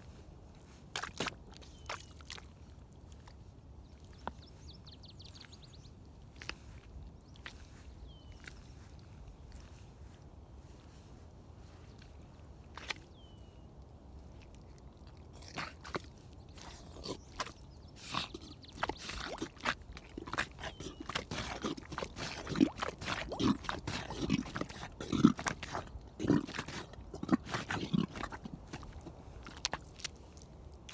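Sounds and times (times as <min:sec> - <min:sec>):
rubber boots squelching in mud: 0:00.0 - 0:30.9.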